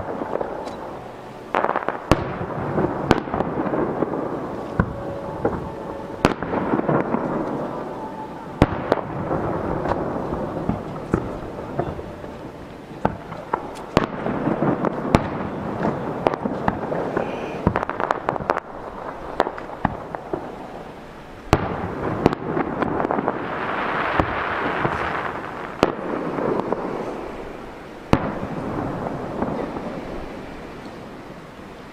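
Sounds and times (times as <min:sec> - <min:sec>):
firework shells booming: 0:00.0 - 0:31.2
firework crackle: 0:00.0 - 0:31.9.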